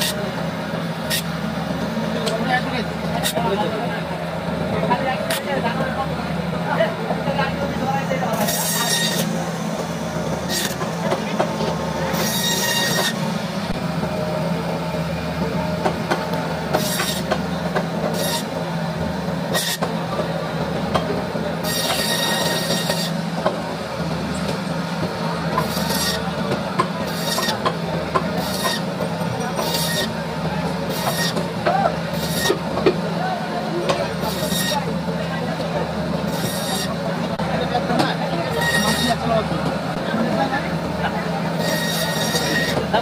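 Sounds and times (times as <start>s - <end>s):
band saw humming: 0.0s - 43.0s.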